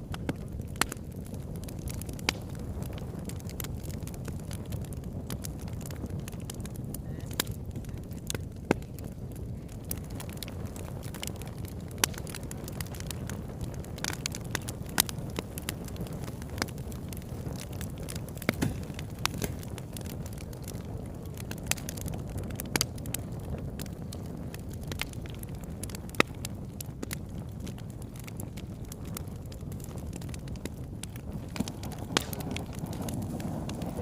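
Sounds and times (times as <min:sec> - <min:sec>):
campfire crackling and popping: 0:00.0 - 0:34.0
low rumble of burning fire: 0:00.0 - 0:34.0.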